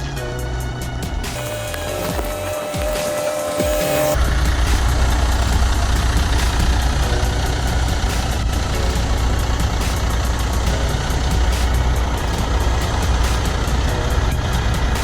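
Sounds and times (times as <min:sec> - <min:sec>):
background music: 0:00.0 - 0:15.0
truck diesel engine rumble: 0:00.0 - 0:15.0.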